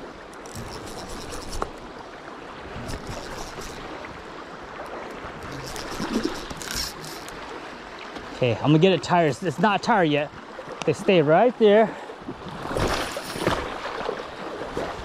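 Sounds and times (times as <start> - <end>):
river current rushing: 0.0 - 15.0.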